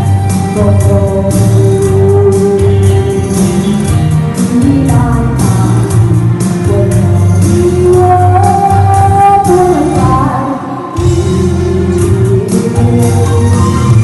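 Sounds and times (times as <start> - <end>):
backing music with steady beat: 0.0 - 14.0
woman singing into a microphone: 0.4 - 14.0.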